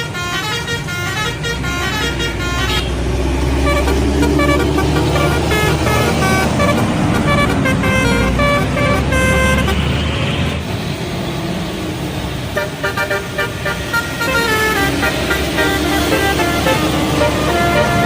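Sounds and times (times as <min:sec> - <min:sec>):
bus horn playing musical notes: 0:00.0 - 0:10.5, 0:12.5 - 0:18.0
bus engine rumble: 0:00.0 - 0:18.0.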